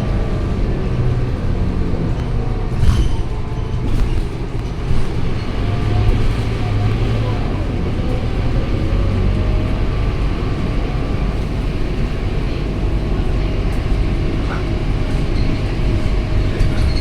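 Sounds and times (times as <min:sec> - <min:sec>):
bus diesel engine rumble: 0:00.0 - 0:17.0
road noise: 0:00.0 - 0:17.0.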